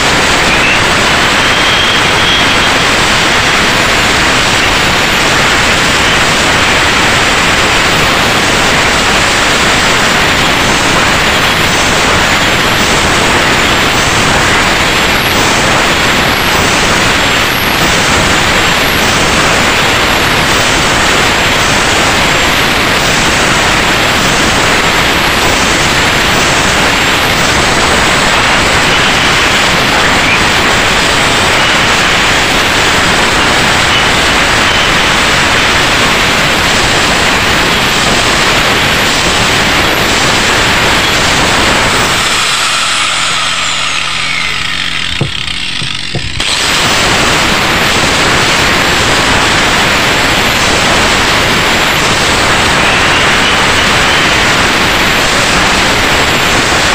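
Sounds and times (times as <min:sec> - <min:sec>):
angle grinder grinding metal: 0:00.0 - 0:55.6.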